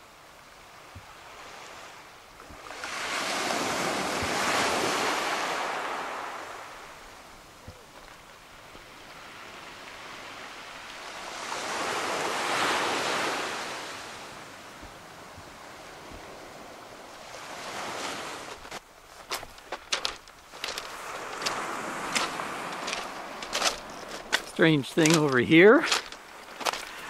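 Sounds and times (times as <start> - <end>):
waves washing up pebble beach: 0.7 - 7.3, 8.5 - 27.0.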